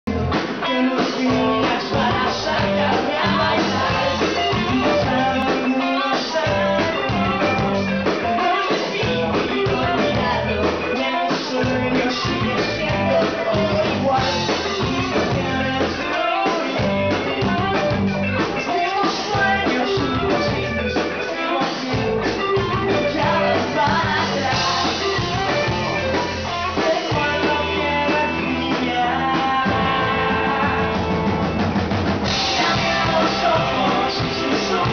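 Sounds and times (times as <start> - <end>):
drum kit: 0.1 - 34.9
electric guitars: 0.1 - 34.9.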